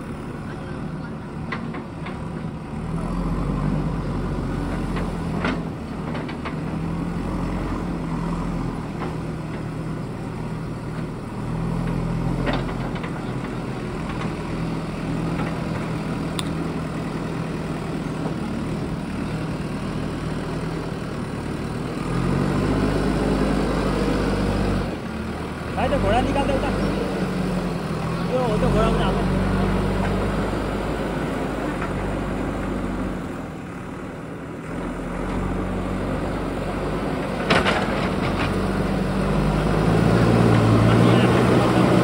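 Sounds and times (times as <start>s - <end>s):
diesel engine running at low revs: 0.0s - 42.0s.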